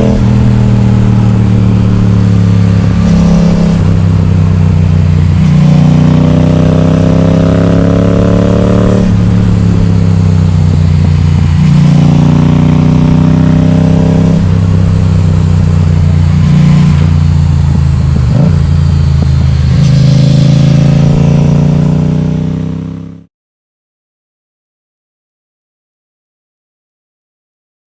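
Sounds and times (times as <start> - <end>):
motorcycle engine revving: 0.0 - 23.3.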